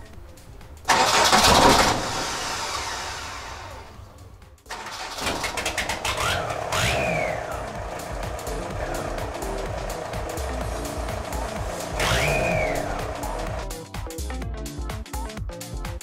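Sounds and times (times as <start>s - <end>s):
diesel engine starting and clattering: 0.1s - 13.9s.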